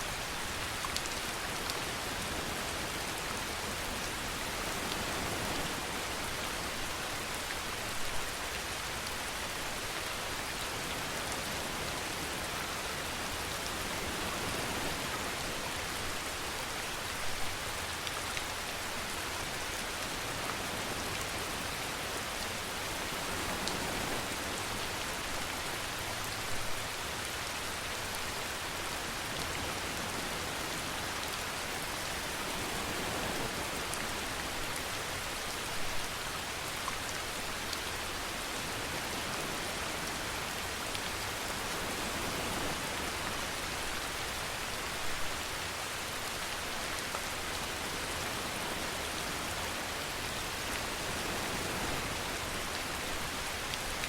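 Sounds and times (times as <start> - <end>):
rain on surfaces: 0.0 - 54.0.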